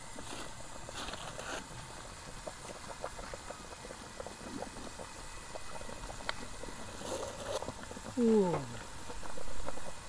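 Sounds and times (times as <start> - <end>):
water bubbling in a pot: 0.0 - 10.0.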